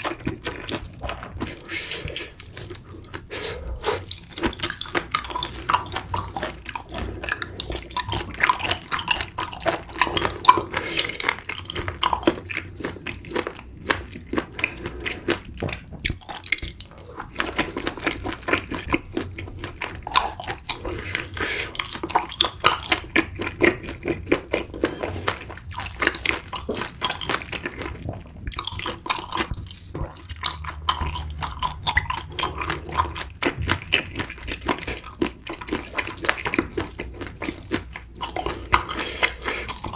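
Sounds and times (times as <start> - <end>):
wet chewing and mouth smacking: 0.0 - 39.9.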